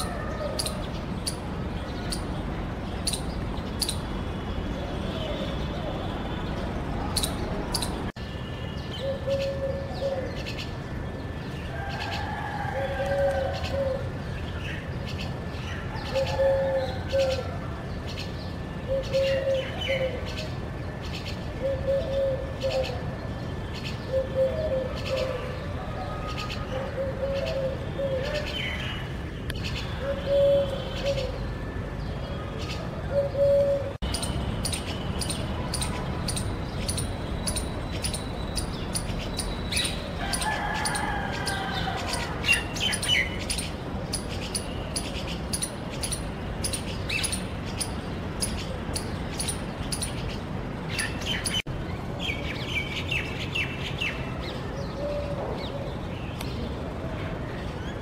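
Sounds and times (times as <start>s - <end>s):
birds calling and chirping: 0.0s - 58.0s.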